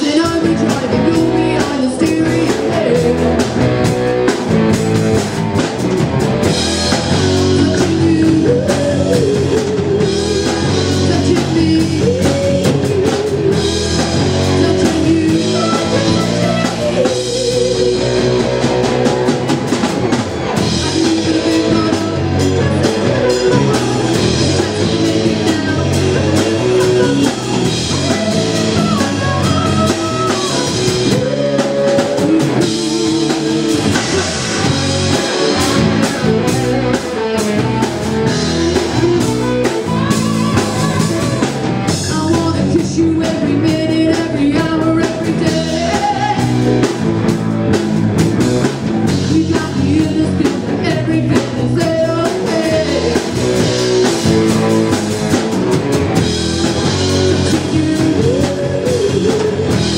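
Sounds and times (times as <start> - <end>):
person singing: 0.0 - 4.3, 6.5 - 19.8, 20.4 - 47.2, 49.1 - 55.5, 56.2 - 59.9
bass guitar: 0.0 - 59.9
drum kit: 0.0 - 59.9
electric guitar: 0.0 - 59.9.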